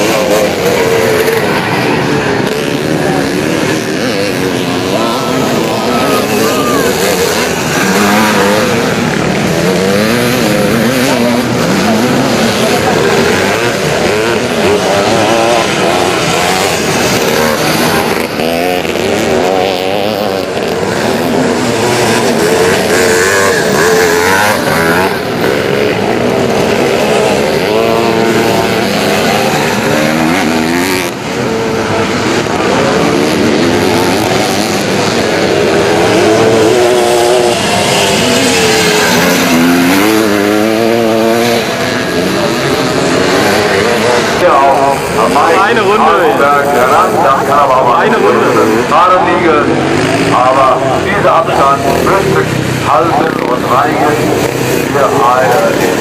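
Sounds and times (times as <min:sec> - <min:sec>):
motocross motorcycles revving: 0:00.0 - 0:56.0.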